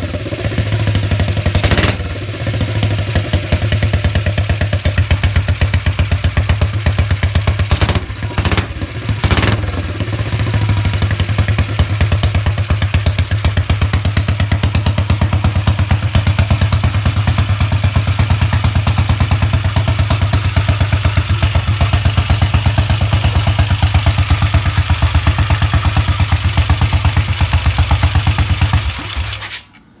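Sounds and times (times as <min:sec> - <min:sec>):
motorcycle engine running: 0:00.0 - 0:29.3.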